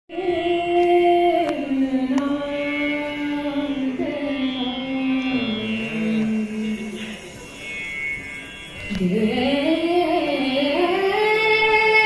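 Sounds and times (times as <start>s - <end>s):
woman singing long notes: 0.1s - 7.2s, 8.9s - 12.0s.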